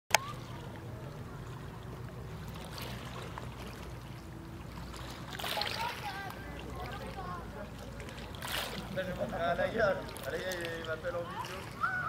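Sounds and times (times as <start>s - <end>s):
small waves lapping shore: 0.1s - 12.0s.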